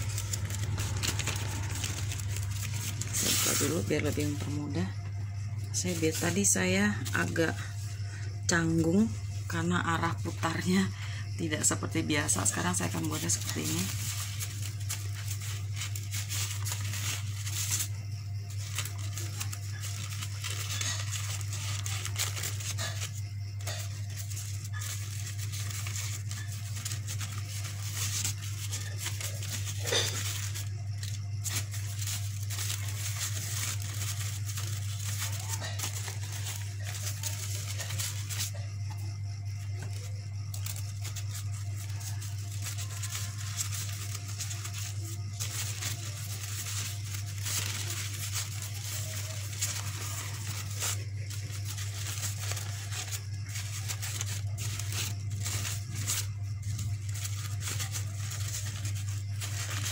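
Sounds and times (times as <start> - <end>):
crepe paper crinkling: 0.0 - 59.9
steady low hum: 0.0 - 59.9.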